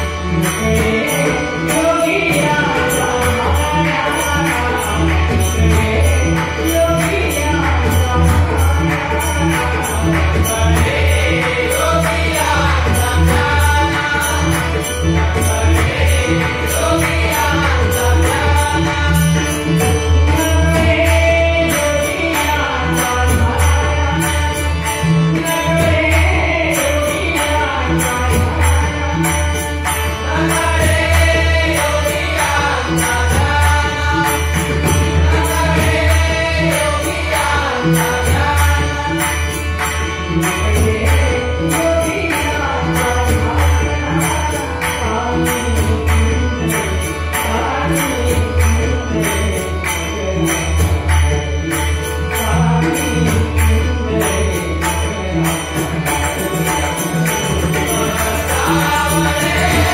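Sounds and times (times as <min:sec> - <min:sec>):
harmonium: 0:00.0 - 0:59.9
men singing: 0:00.0 - 0:59.9.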